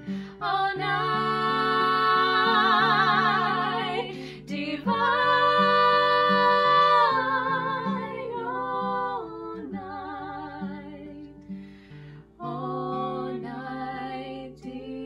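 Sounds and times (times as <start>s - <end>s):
women singing: 0.0s - 11.6s, 12.3s - 15.0s
acoustic guitar: 0.0s - 15.0s.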